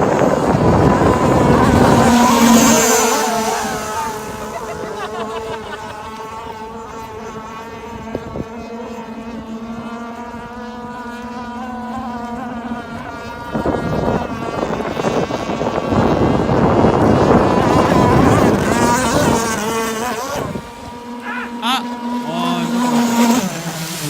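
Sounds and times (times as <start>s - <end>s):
model boat engine running: 0.0s - 24.0s
rush of water: 0.0s - 24.0s.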